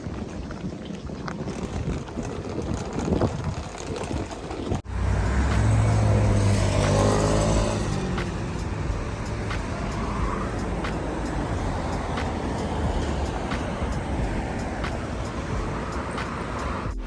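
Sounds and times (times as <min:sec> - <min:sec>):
vehicle engine and road noise: 0:01.5 - 0:17.0.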